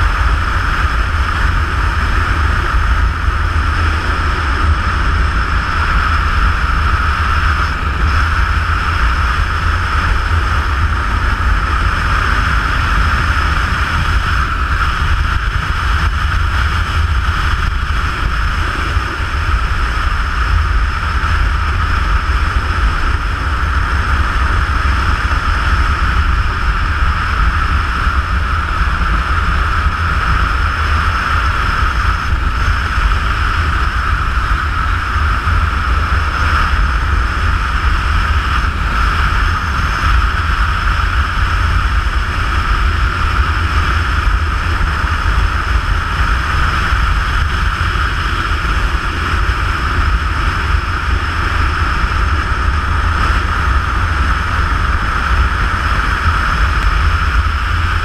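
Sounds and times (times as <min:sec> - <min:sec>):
low road rumble: 0:00.0 - 0:58.0
wind rushing on microphone: 0:00.0 - 0:58.0.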